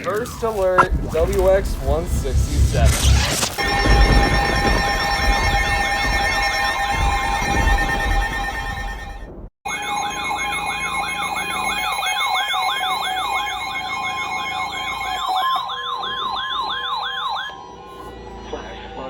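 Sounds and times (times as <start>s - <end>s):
steady alarm tone: 2.3s - 19.0s
electronic siren alarm sweeping: 2.6s - 19.0s.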